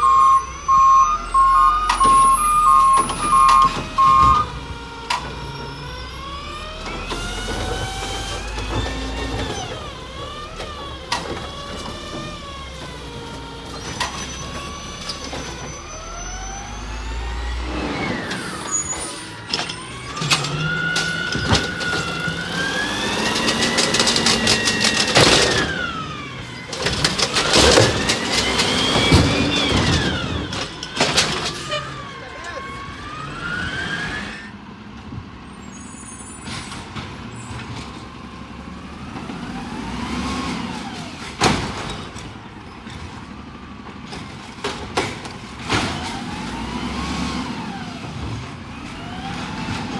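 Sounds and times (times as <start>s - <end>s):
garbage truck engine whining: 0.0s - 49.9s.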